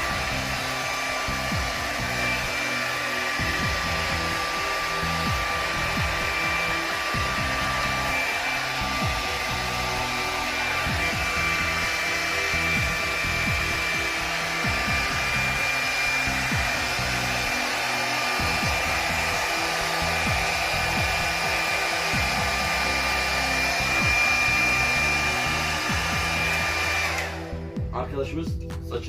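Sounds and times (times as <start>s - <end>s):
hair dryer running: 0.0s - 27.9s.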